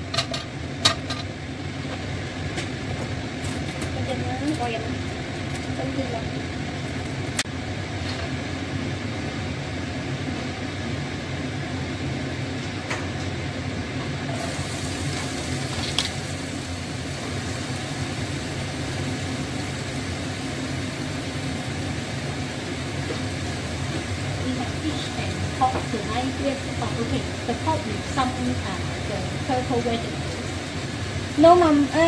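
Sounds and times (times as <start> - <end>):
kitchen exhaust fan humming: 0.0 - 32.0.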